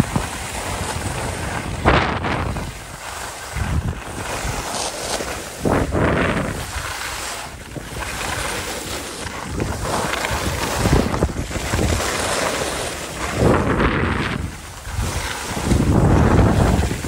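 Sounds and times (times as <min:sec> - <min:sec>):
skis scraping over snow: 0:00.0 - 0:17.0
wind rushing over microphone: 0:00.0 - 0:17.0.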